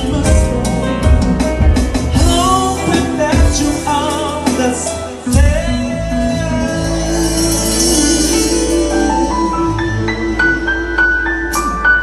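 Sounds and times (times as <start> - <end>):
instrumental accompaniment: 0.0 - 12.0.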